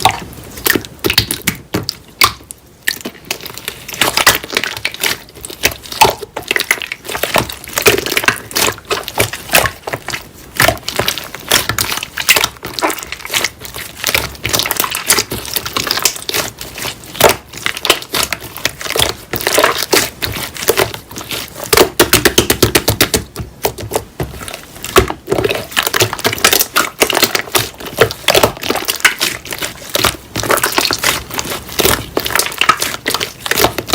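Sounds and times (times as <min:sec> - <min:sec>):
sticky slime crackles and pops: 0:00.0 - 0:33.9.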